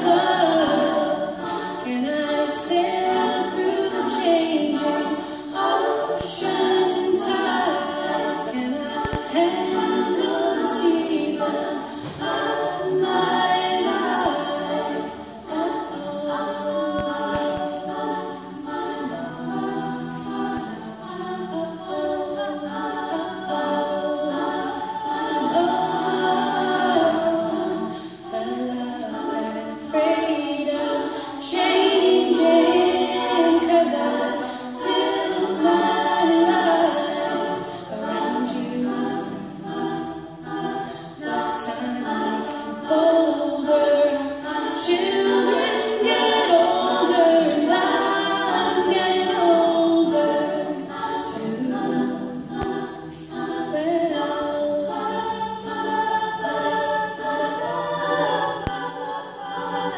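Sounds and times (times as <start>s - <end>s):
backing vocal harmonies: 0.0s - 59.9s.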